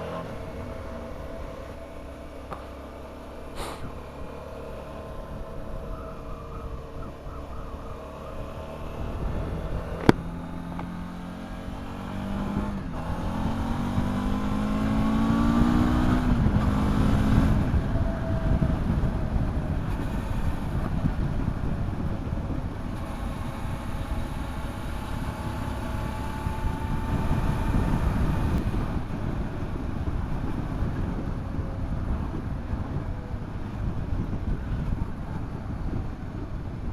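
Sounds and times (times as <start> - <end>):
motorcycle engine accelerating: 0.0 - 36.9
wind and road noise: 0.0 - 36.9.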